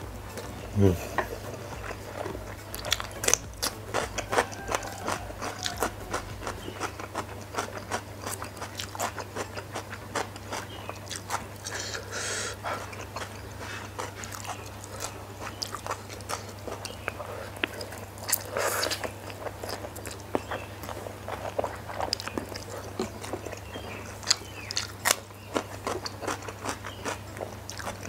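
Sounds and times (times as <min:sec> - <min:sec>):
crunching and chewing cucumber: 0:00.0 - 0:28.0.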